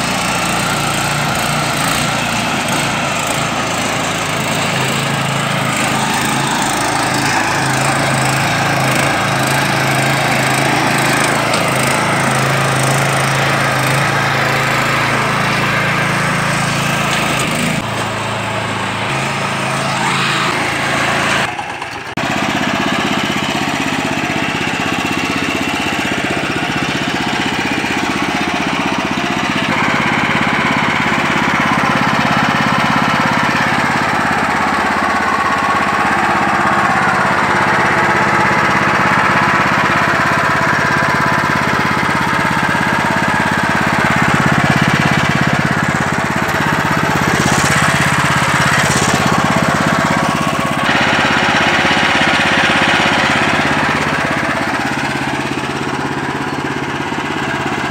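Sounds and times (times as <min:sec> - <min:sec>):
small petrol tiller engine running: 0:00.0 - 0:57.9
tines churning soil: 0:00.0 - 0:57.9.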